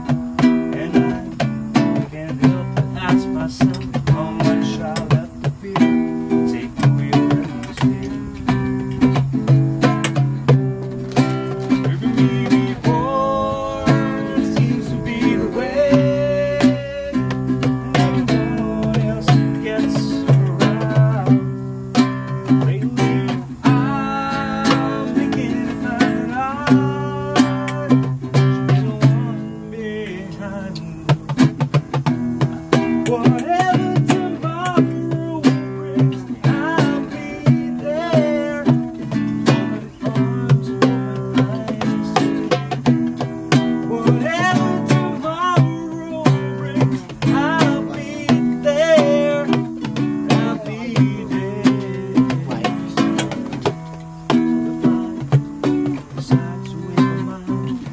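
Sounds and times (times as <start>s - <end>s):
acoustic guitar plucked and strummed: 0.0s - 57.9s.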